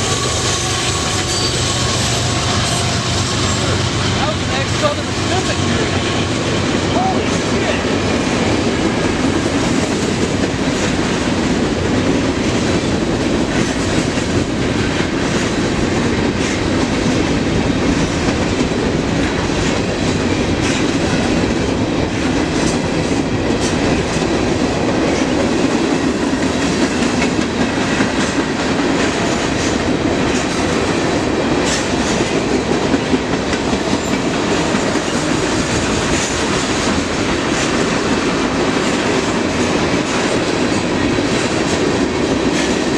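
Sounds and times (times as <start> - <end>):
freight train wheels rumbling on rail: 0.0 - 42.9.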